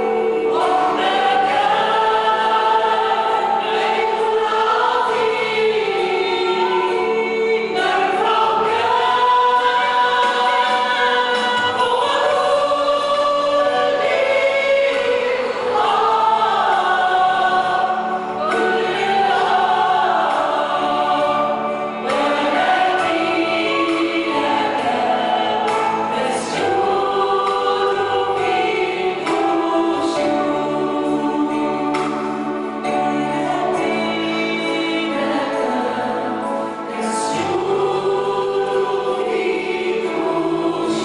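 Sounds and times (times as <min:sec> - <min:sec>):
women singing a hymn in harmony: 0:00.0 - 0:41.0.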